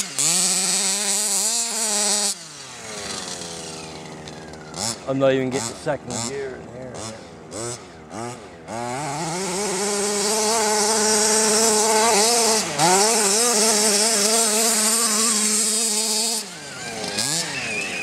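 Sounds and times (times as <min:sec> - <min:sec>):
small two-stroke engine revving: 0:00.0 - 0:18.0.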